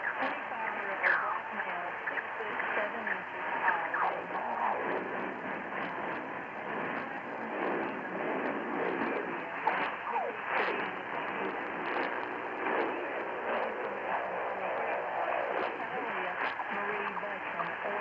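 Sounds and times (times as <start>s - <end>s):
faint radio program audio: 0.0s - 18.0s
radio static hiss: 0.0s - 18.0s
static crackles: 0.0s - 18.0s.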